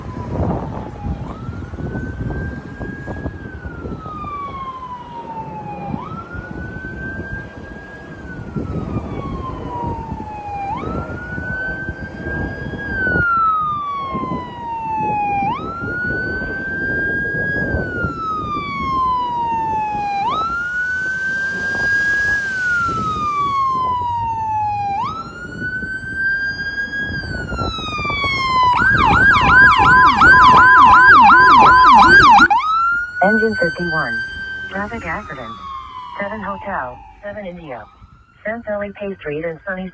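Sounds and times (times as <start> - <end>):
emergency siren wailing: 0.0 - 39.9
siren fast yelp: 1.0 - 38.6.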